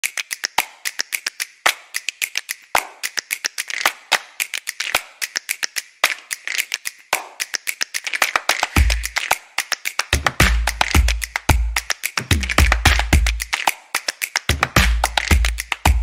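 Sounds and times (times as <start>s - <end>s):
percussive clicks and snaps: 0.0s - 16.0s.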